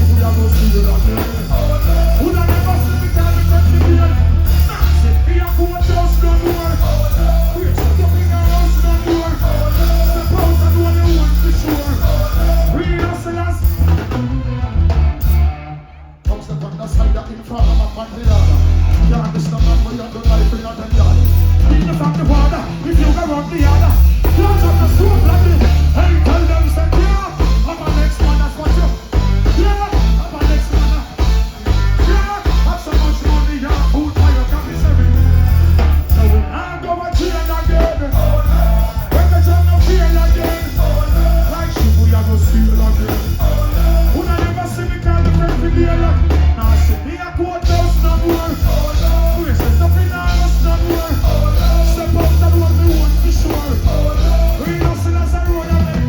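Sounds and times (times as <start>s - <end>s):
heavy pulsing bass line: 0.0s - 56.0s
live reggae band: 0.0s - 56.0s.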